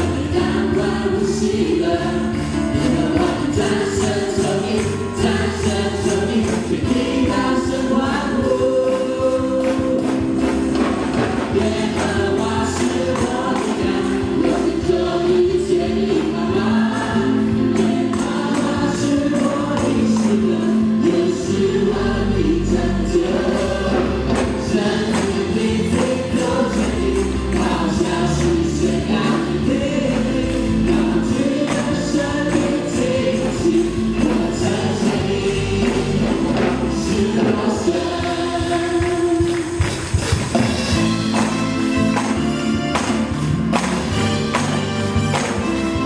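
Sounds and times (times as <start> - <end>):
band playing keyboard bass and drums: 0.0 - 46.0
group singing praise song: 0.0 - 46.0
tambourines shaken and struck: 0.0 - 46.0.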